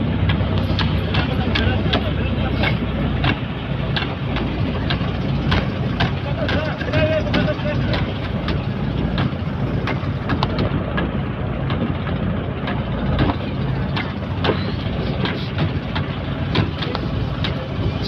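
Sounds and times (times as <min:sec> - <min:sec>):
boat engine running: 0:00.0 - 0:18.0
sharp clicks and knocks: 0:00.2 - 0:17.7.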